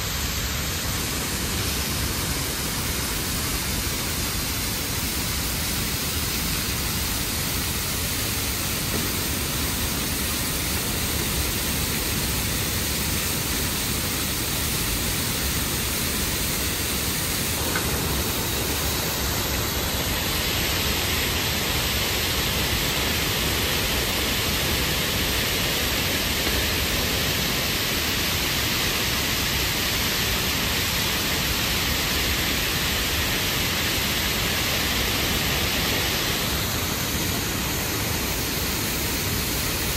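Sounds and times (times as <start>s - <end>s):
water rushing through dam gate: 0.0s - 39.9s.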